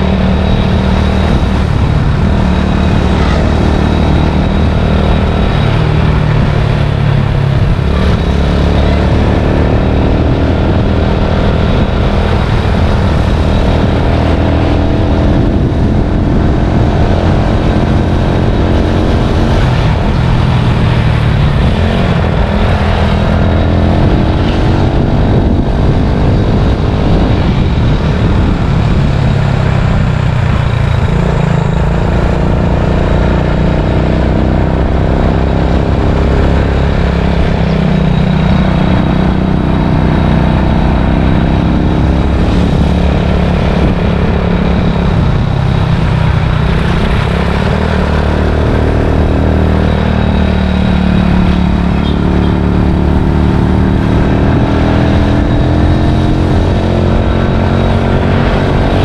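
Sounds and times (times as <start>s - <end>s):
vehicle engine revving: 0.0s - 59.0s.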